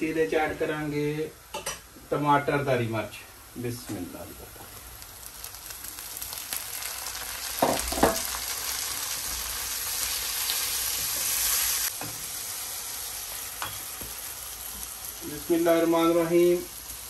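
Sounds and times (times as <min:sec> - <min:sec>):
vegetables sizzling in hot oil: 0:02.6 - 0:17.0.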